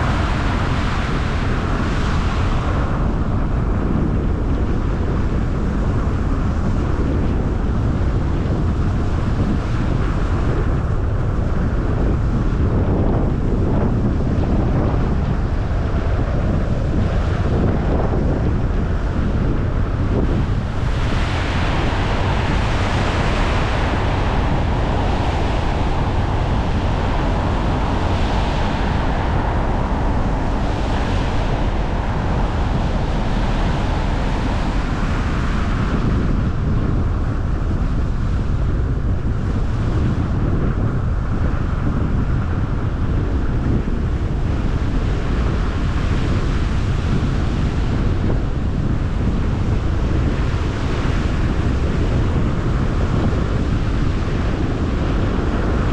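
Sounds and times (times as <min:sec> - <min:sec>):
car road noise rumble: 0:00.0 - 0:55.9.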